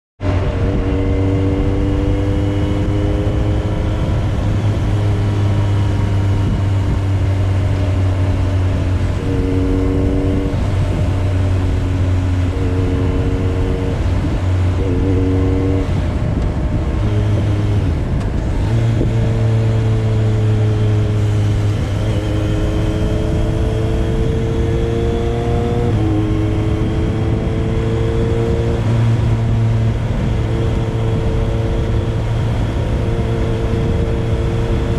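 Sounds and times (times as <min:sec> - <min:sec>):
constant rushing noise: 0:00.2 - 0:34.9
motorcycle engine running: 0:00.2 - 0:34.9.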